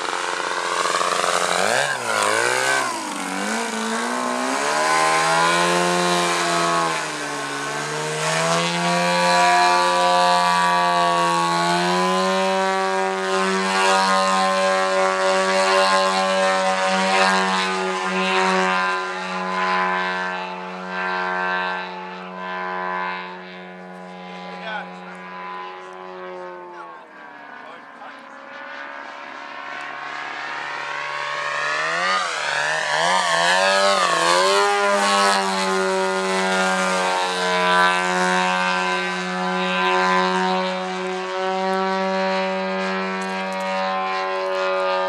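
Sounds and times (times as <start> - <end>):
model plane engine and propeller: 0.0 - 45.0.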